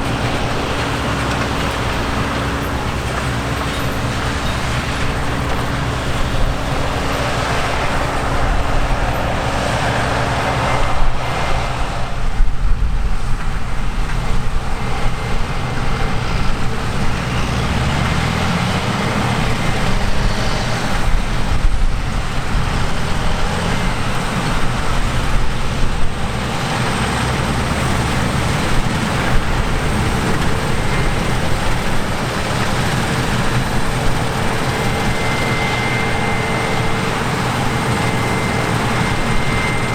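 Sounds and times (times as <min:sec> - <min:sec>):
diesel harvest machinery running: 0:00.0 - 0:39.9.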